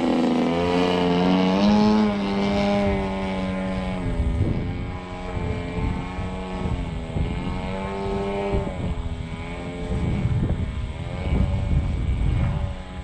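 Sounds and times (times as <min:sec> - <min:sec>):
model plane propeller droning: 0:00.0 - 0:13.0
wind buffeting microphone: 0:00.0 - 0:13.0.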